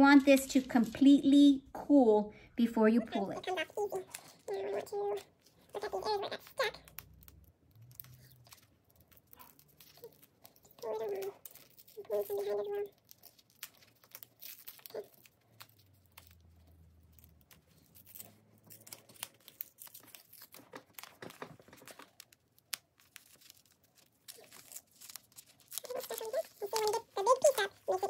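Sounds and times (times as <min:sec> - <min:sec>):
paper peeling off fabric: 0:03.2 - 0:28.0.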